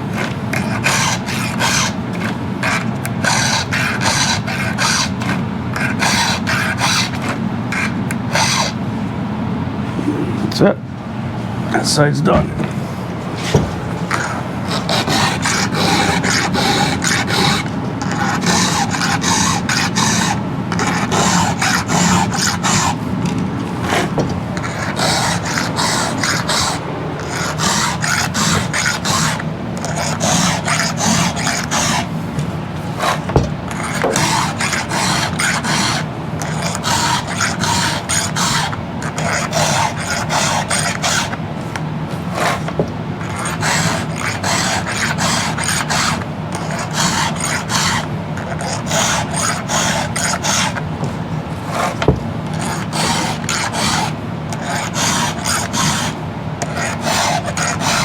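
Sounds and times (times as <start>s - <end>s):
file rasping on chainsaw chain: 0.1s - 8.8s, 14.1s - 23.0s, 23.9s - 32.1s, 33.0s - 41.4s, 42.3s - 50.8s, 51.7s - 58.0s.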